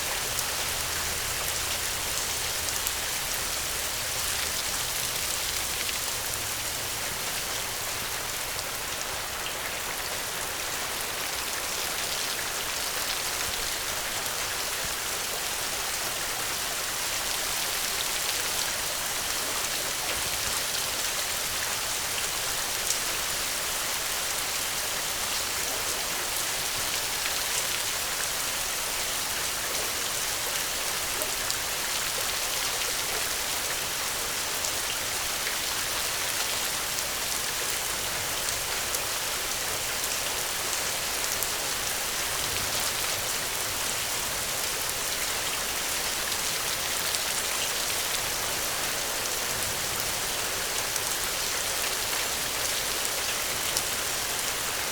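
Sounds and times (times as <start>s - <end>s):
steady rainfall pattering: 0.0s - 54.9s.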